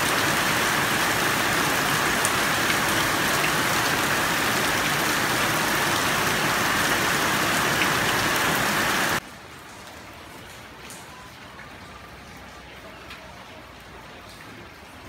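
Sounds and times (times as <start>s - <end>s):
faint rain on wet street: 0.0s - 15.0s
heavy rain into water buckets: 0.0s - 15.0s.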